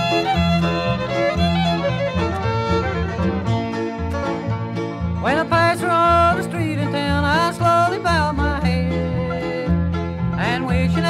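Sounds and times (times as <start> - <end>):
bluegrass band with fiddle lead: 0.0 - 11.0.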